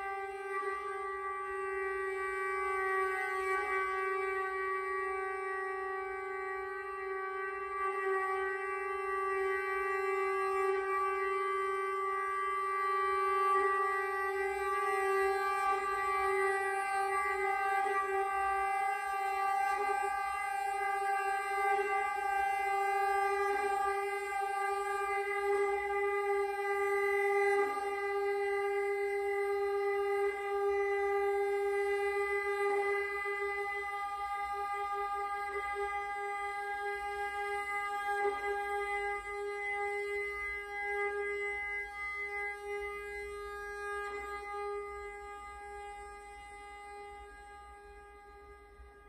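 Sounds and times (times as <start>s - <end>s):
fiddle bowed long note: 0.0s - 49.0s.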